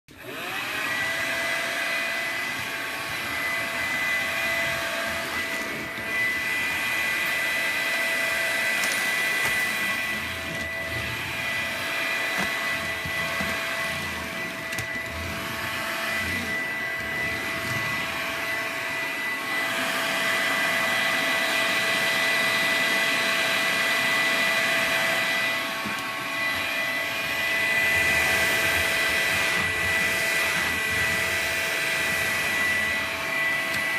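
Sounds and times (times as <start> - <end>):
vacuum cleaner motor whining: 0.1 - 33.9.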